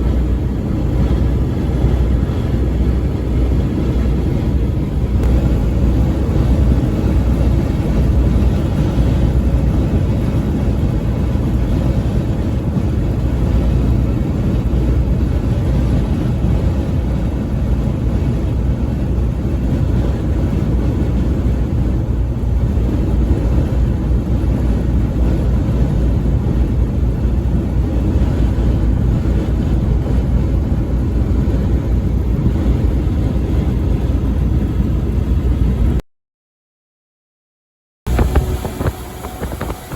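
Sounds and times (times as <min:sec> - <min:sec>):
truck driving at highway speed: 0:00.0 - 0:36.0, 0:38.1 - 0:39.9.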